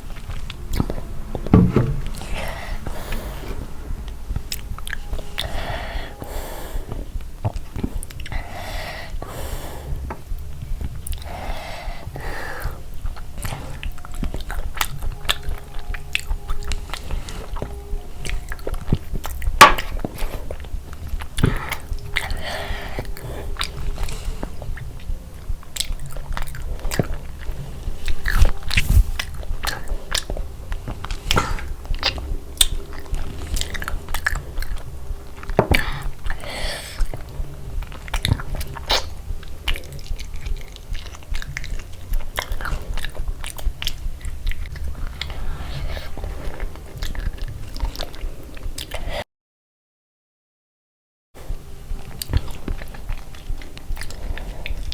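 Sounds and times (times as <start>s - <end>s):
person chewing: 0.0s - 49.2s, 52.0s - 54.9s.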